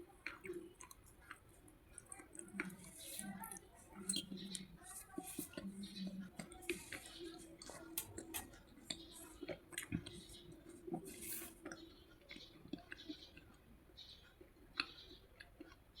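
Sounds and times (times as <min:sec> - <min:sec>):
pencil being chewed: 0:00.2 - 0:13.6.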